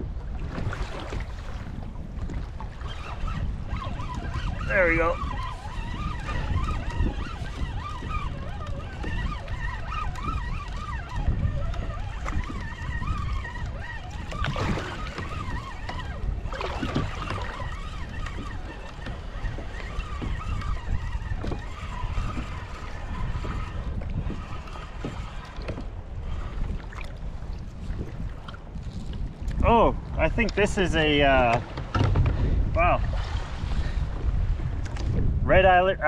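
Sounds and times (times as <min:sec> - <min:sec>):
water sloshing against kayak hull: 0:00.0 - 0:35.4
wind rumbling on microphone: 0:00.0 - 0:36.0.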